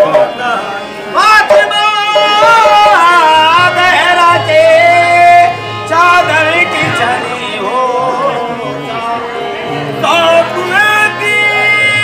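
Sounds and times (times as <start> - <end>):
harmonium drone: 0.0 - 12.0
men singing: 0.0 - 12.0.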